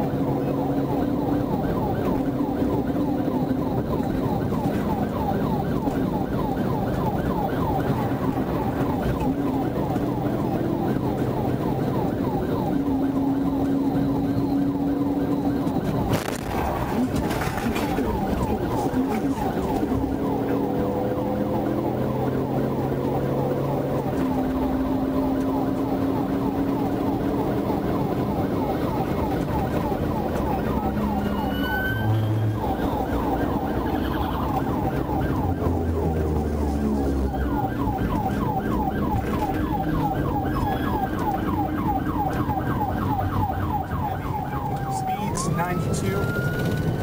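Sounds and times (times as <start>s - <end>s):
car engine: 0.0s - 47.0s
police siren fast yelp: 0.0s - 47.0s
road noise: 0.0s - 47.0s.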